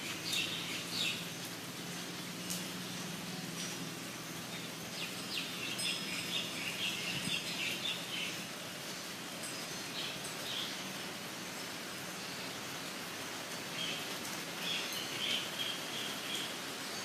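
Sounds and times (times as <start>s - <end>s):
rain hissing: 0.0s - 17.0s
songbird chirping: 0.0s - 17.0s.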